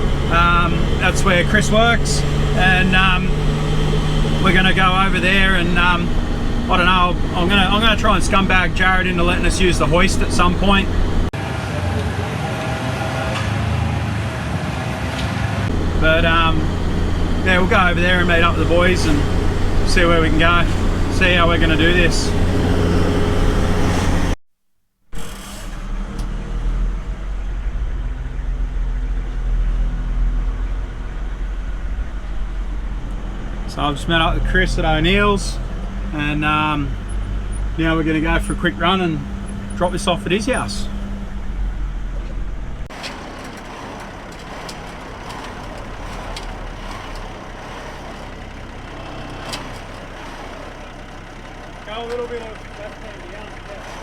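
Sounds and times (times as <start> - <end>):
diesel truck engine running: 0.0 - 11.4, 15.7 - 24.4, 25.1 - 54.0
road noise: 0.0 - 24.4, 25.1 - 54.0.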